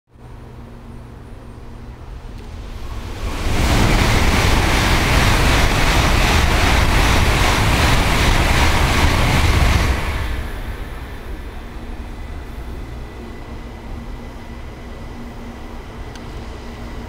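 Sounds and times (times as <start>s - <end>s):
train passing at speed: 0.2s - 17.0s.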